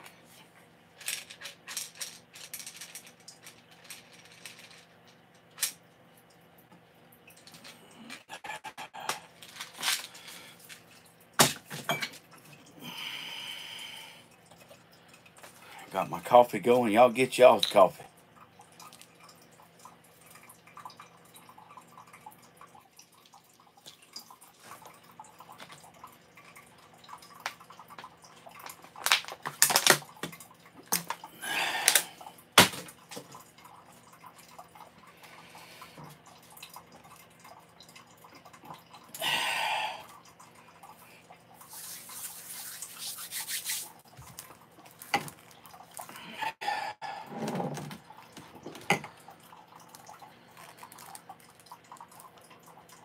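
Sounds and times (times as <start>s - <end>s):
coffee maker dripping and hissing: 4.8s - 42.9s, 43.9s - 53.0s.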